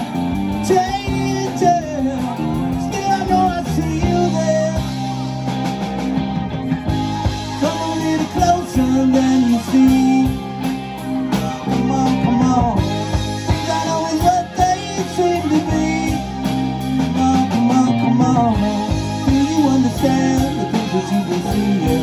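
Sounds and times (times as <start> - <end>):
electric guitars: 0.0 - 22.0
live rock band playing: 0.0 - 22.0.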